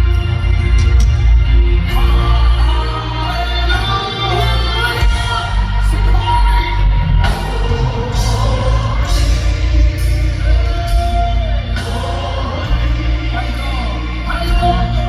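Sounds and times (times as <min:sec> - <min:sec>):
voices singing: 0:00.0 - 0:15.0.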